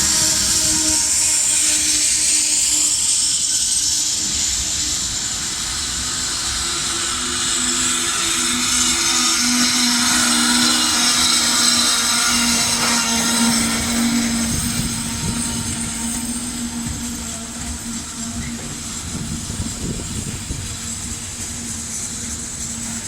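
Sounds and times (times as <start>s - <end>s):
freight train rolling past: 0.0s - 23.0s
low locomotive hum: 0.0s - 23.0s.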